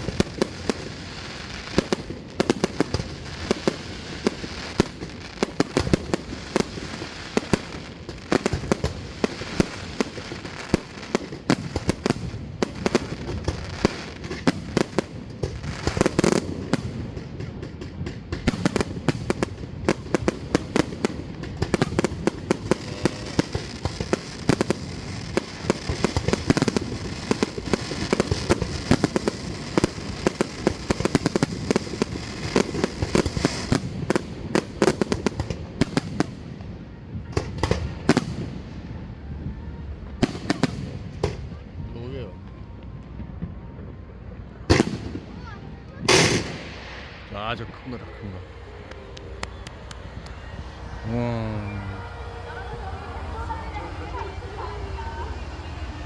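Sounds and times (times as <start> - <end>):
fireworks boom: 0.0 - 36.3, 44.5 - 56.0
fireworks bangs and crackles: 0.0 - 56.0.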